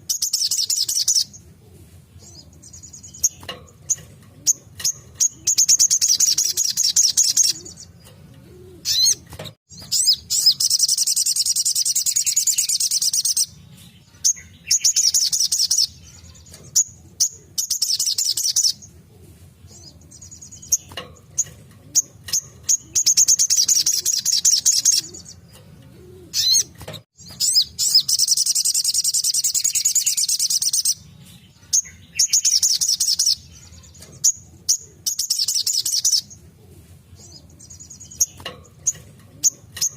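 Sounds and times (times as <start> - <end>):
bird singing fast trills: 0.0 - 1.4, 2.2 - 18.9, 19.7 - 25.6, 26.3 - 36.4.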